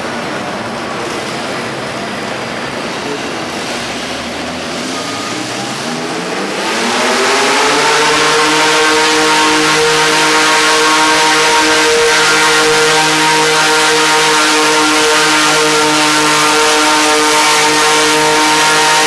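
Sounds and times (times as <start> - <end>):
tractor engine revving: 0.0 - 19.0.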